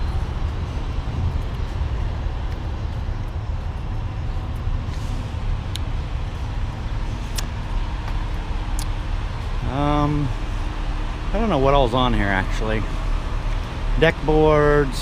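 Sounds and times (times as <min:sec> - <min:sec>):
trucks idling: 0:00.0 - 0:15.0.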